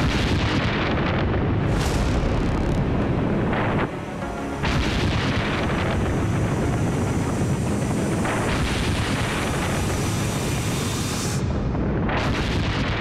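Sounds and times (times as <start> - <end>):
rumble of explosions and gunfire: 0.0 - 13.0.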